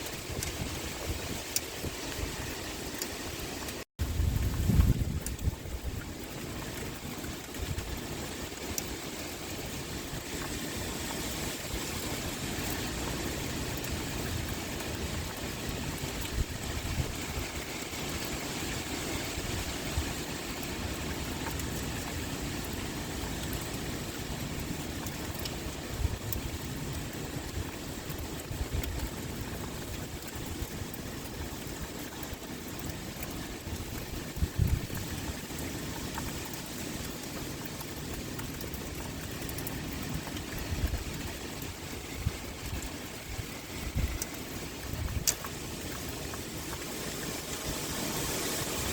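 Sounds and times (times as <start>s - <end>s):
low rumble of wind: 0.0s - 48.9s
pouring rain: 0.0s - 48.9s.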